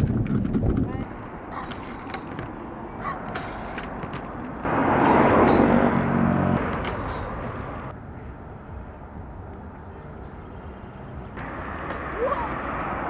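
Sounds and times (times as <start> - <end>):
skateboard wheels rolling on pavement: 0.0 - 13.0.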